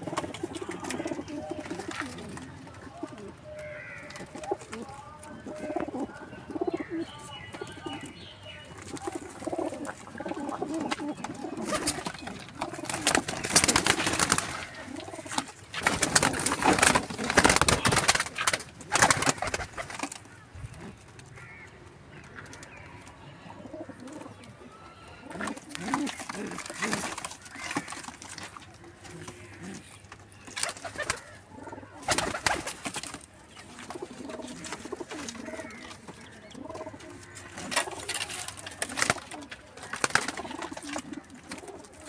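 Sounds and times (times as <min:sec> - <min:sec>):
wings flapping and scuffling: 0:00.0 - 0:06.7, 0:08.7 - 0:21.6, 0:25.3 - 0:42.0
pigeons cooing: 0:00.0 - 0:18.2, 0:22.3 - 0:32.8, 0:33.6 - 0:42.0.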